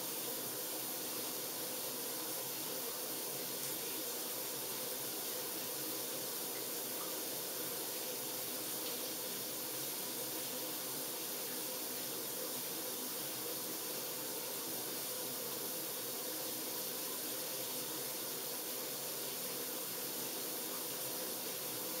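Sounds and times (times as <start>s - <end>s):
shower spraying water: 0.0s - 22.0s.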